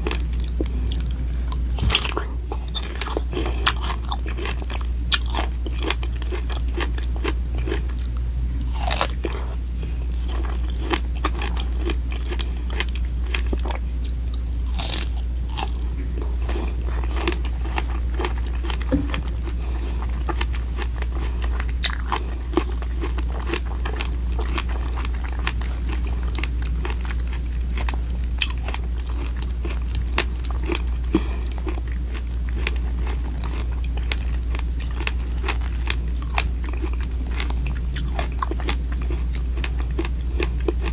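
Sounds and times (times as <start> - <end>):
crunchy chewing: 0.0 - 40.9
steady low hum: 0.0 - 40.9.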